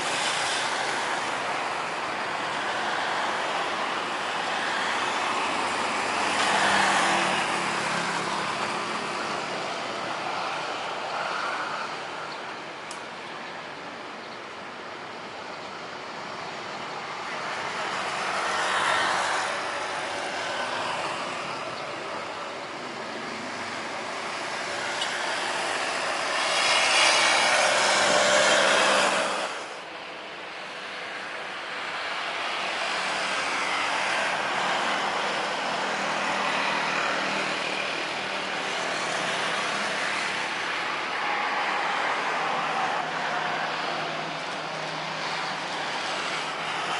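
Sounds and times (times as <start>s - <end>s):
jet engines roaring at taxi power: 0.0s - 46.9s.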